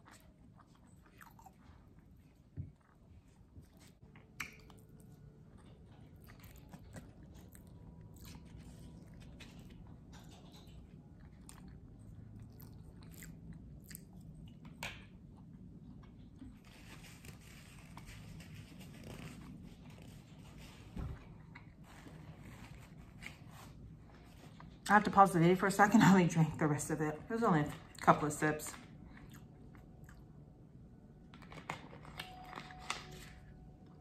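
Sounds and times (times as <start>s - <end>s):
chewing food: 0.0s - 24.9s, 27.8s - 30.6s.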